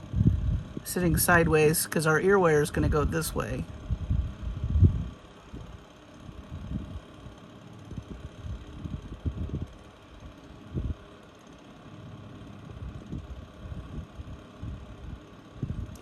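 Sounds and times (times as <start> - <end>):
fan-like room hum: 0.0 - 16.0.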